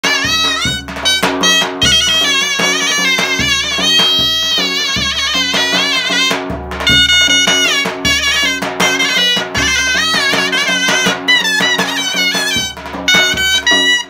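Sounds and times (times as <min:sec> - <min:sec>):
shawm playing folk melody: 0:00.0 - 0:14.0.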